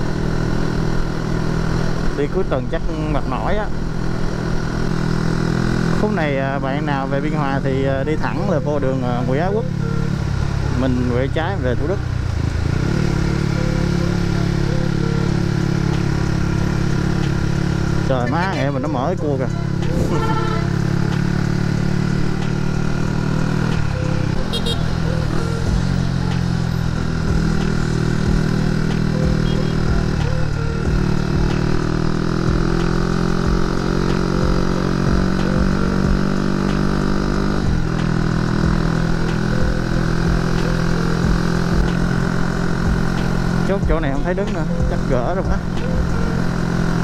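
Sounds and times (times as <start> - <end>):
motorcycle engine running: 0.0 - 47.0
road and wind noise: 0.0 - 47.0.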